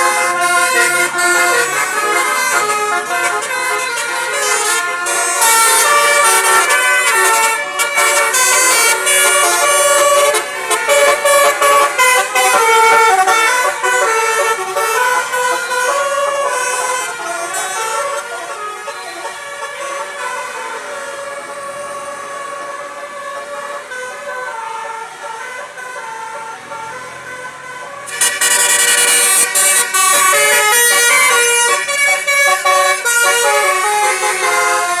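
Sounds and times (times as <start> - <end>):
musical bus horn melody: 0.0 - 35.0.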